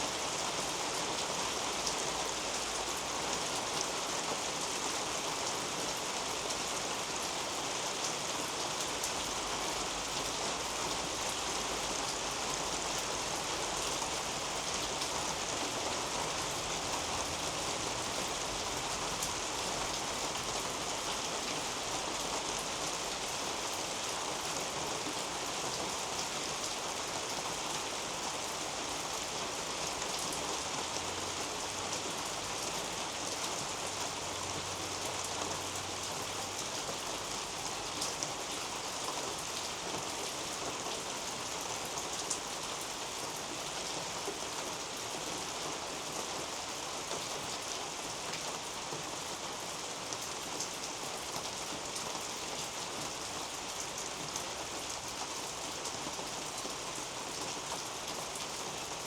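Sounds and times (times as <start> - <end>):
rain on leaves and roof: 0.0 - 59.0.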